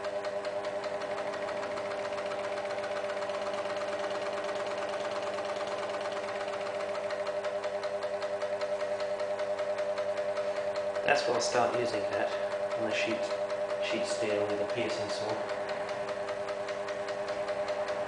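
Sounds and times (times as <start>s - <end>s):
scroll saw running: 0.0s - 18.0s.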